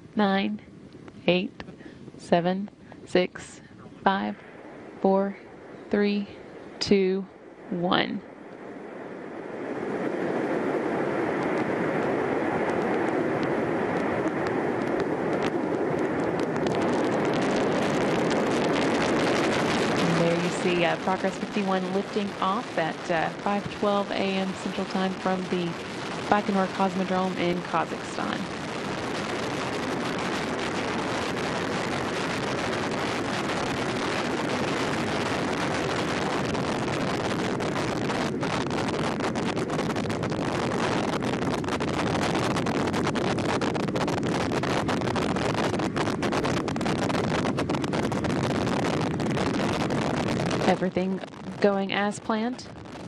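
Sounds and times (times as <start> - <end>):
rocket engines roaring with crackle: 0.0 - 53.0.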